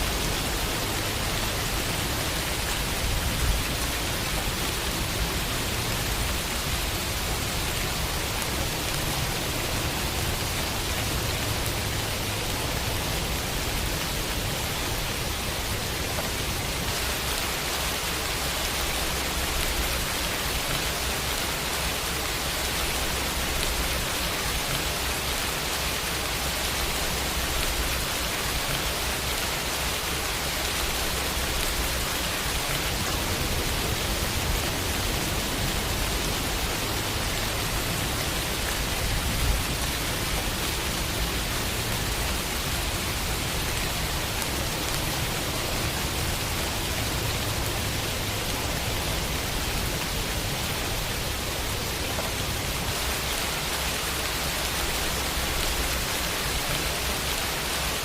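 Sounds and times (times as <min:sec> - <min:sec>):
rain pattering on a window: 0:00.0 - 0:58.0.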